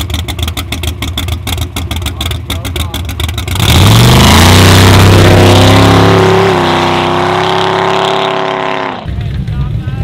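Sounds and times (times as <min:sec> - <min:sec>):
drag car engine accelerating: 0:00.0 - 0:10.0.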